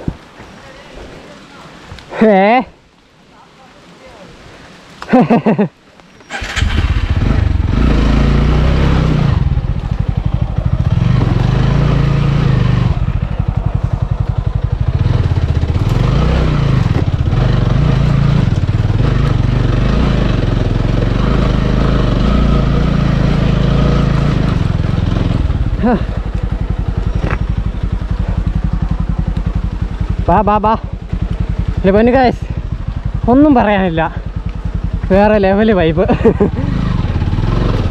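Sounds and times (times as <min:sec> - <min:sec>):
motorcycle engine revving: 0:06.3 - 0:37.9.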